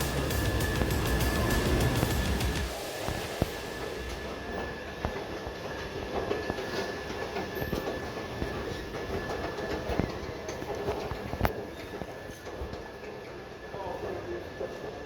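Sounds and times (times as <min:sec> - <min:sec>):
shuttle train rolling rumble: 0:00.0 - 0:15.0.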